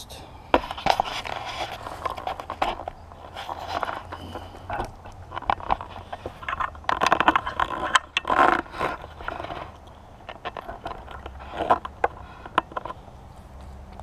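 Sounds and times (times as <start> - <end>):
handling scrapes and clicks: 0.5 - 14.0.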